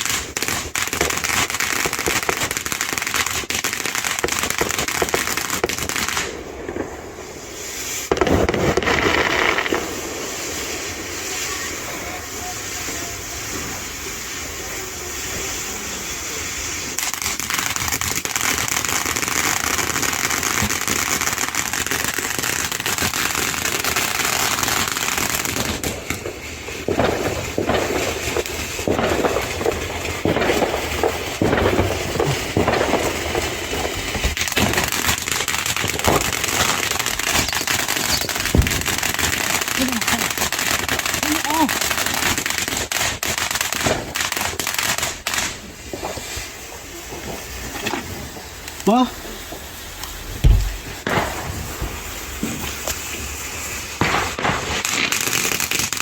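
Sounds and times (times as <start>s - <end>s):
firework fountains hissing: 0.0s - 56.0s
fireworks crackling and popping: 0.0s - 56.0s.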